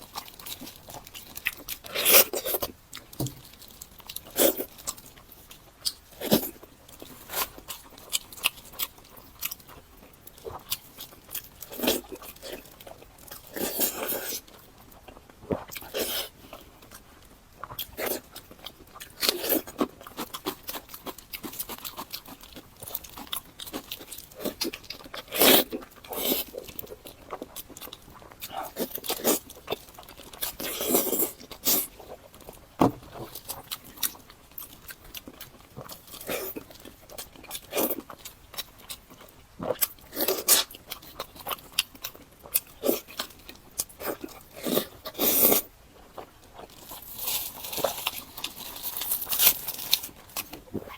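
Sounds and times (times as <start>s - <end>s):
crunchy bites and chewing: 0.0s - 17.0s, 17.6s - 50.9s.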